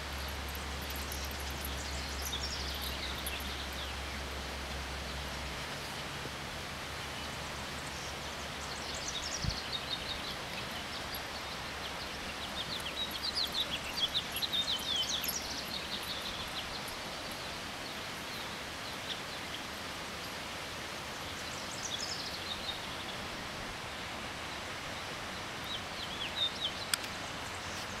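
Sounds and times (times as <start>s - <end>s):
river rushing: 0.0s - 28.0s
songbirds chirping: 0.0s - 28.0s.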